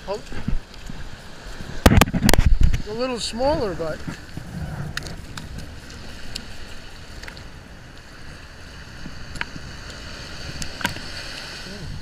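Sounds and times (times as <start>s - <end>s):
small surf washing: 0.0s - 12.0s
wind rumbling on microphone: 0.0s - 12.0s.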